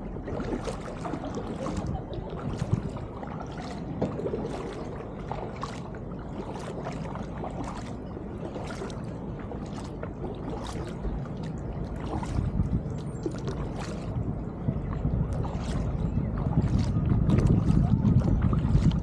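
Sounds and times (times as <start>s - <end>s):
low steady rumble: 0.0s - 19.0s
paddle splashing through water: 0.0s - 19.0s.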